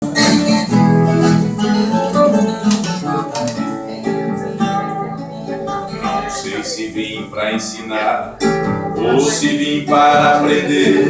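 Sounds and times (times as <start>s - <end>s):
plucked and strummed guitar: 0.0s - 11.0s.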